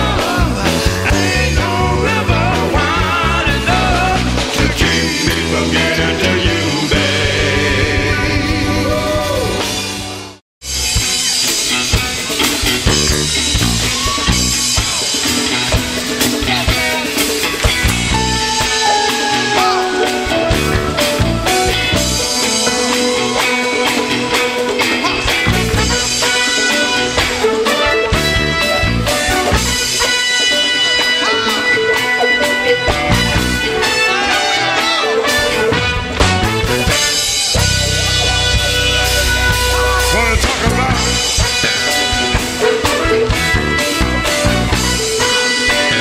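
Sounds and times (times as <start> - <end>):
bass: 0.0 - 46.0
drum kit: 0.0 - 46.0
guitar: 0.0 - 46.0.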